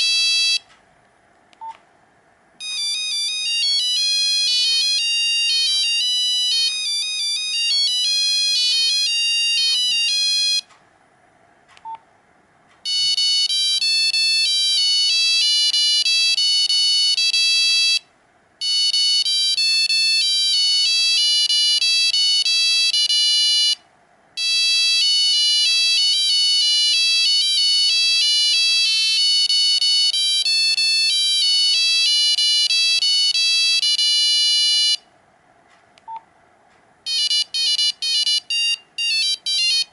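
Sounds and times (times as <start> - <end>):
monophonic phone ringtone: 0.0 - 0.6, 2.6 - 10.7, 12.8 - 23.8, 24.4 - 35.0, 37.1 - 39.9.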